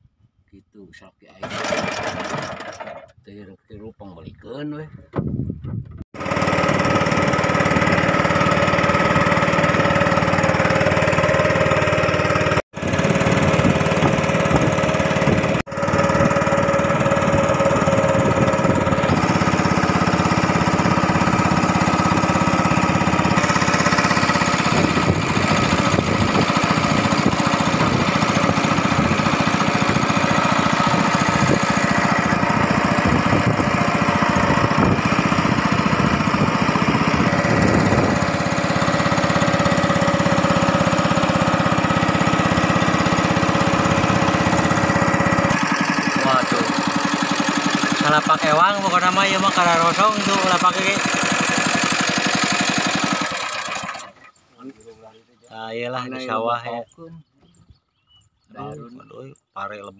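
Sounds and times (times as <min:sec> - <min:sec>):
small engine running: 0:01.4 - 0:03.2, 0:06.2 - 0:55.0, 0:58.6 - 0:59.0.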